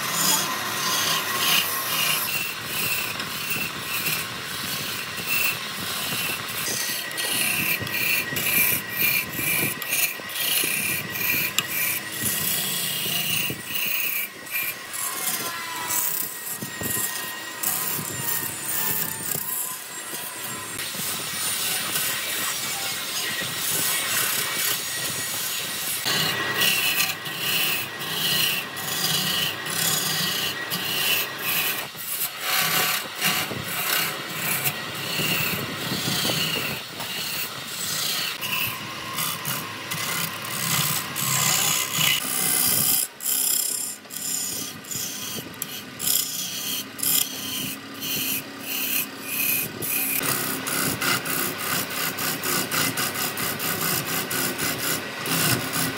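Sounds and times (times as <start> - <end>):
wood being scraped by hand: 0.0 - 55.9.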